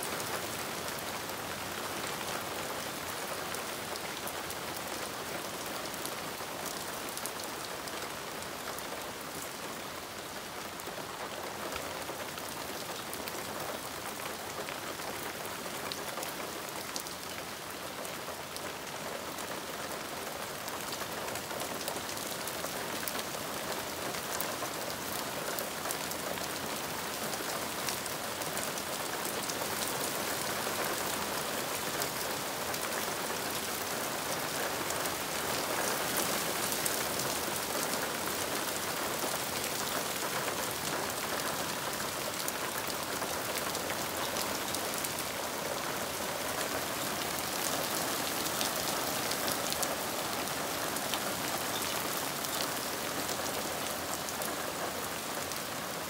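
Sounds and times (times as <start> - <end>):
hard rain on leaves and lawn: 0.0 - 56.0.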